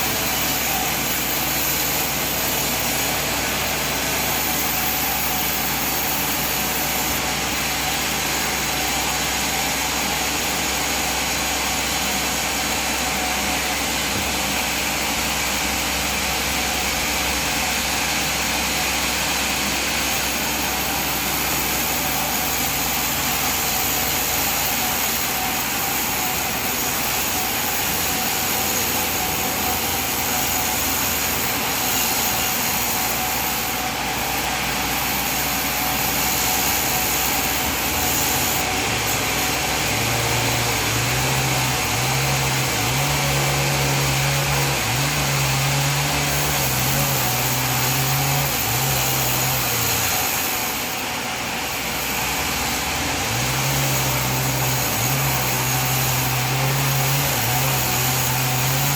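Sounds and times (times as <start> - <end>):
sawmill machine sawing timber: 0.0 - 58.9.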